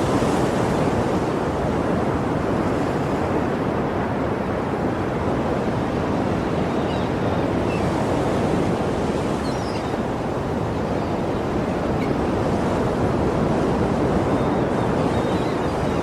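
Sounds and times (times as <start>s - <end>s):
sea surf washing on shore: 0.0s - 16.0s.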